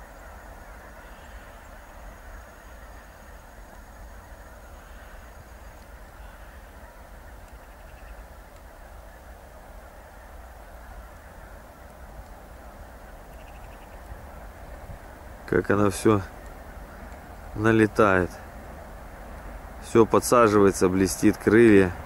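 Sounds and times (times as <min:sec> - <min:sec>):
flock of geese honking: 0:00.0 - 0:22.0
low wind rumble: 0:00.0 - 0:22.0.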